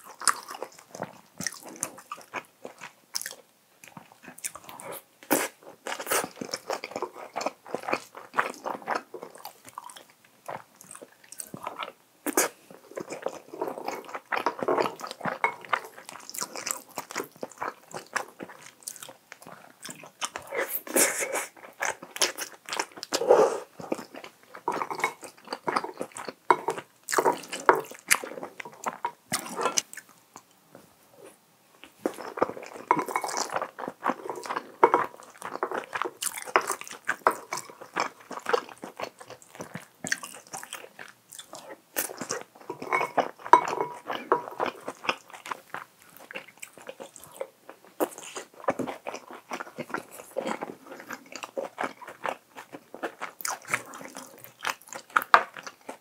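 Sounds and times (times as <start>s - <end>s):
wet chewing and smacking: 0.0s - 30.5s, 31.8s - 56.0s.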